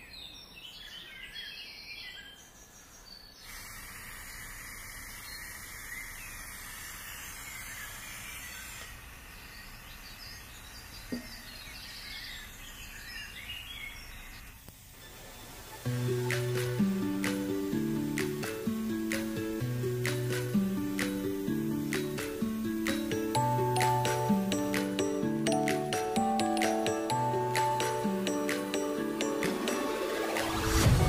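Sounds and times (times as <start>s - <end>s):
outdoor background noise: 0.0s - 31.0s
steady hiss: 3.4s - 13.4s, 14.2s - 31.0s
birds chirping: 5.2s - 30.8s.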